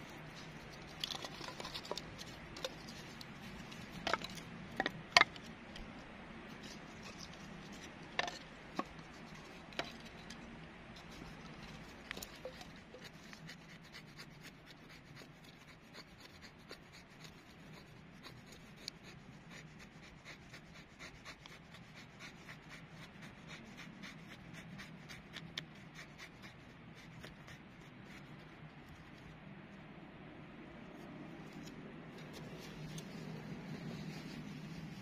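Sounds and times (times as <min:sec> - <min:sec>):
knife scraping dry wood: 0:00.0 - 0:05.9, 0:06.5 - 0:29.3, 0:31.0 - 0:35.0.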